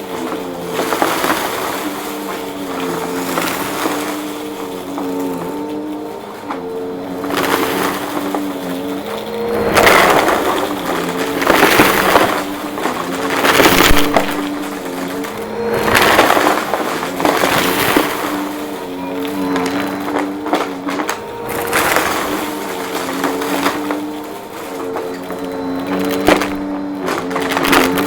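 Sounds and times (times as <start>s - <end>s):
debris crunching and rattling: 0.0s - 28.0s
vacuum cleaner motor humming: 0.0s - 28.0s.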